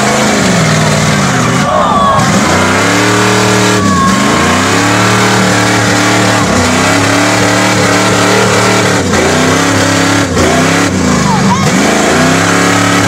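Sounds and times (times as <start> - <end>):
jeep engine revving in mud: 0.0 - 13.0.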